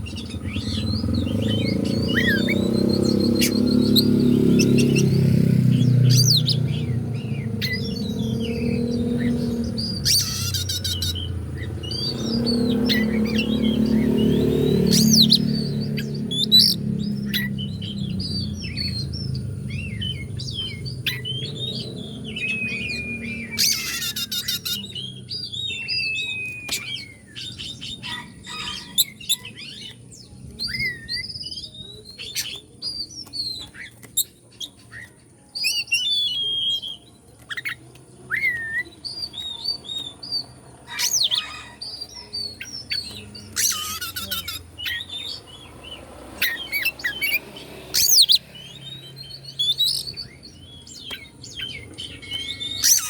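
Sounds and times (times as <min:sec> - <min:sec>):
bird singing whistled song: 0:00.0 - 0:53.0.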